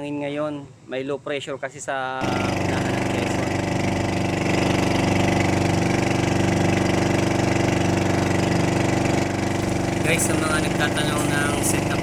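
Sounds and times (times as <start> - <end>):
boat engine running: 2.2 - 12.0.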